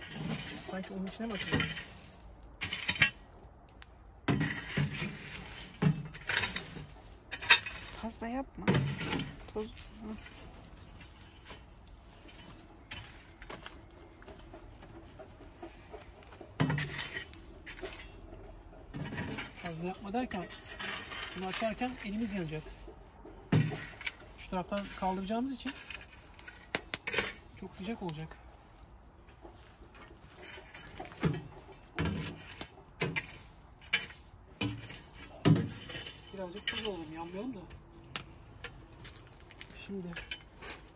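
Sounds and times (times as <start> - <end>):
metal shovel scraping through ash: 0.0 - 3.6, 4.2 - 40.9.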